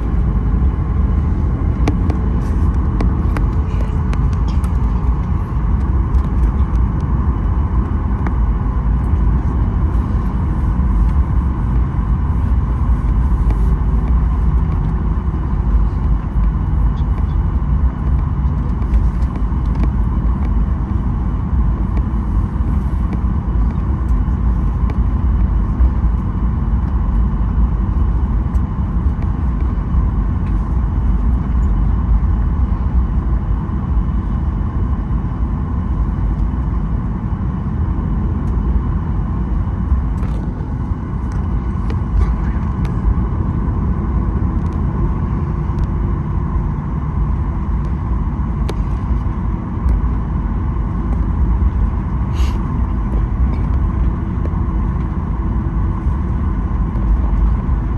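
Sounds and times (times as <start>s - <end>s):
aircraft cabin rumble while taxiing: 0.0s - 57.9s.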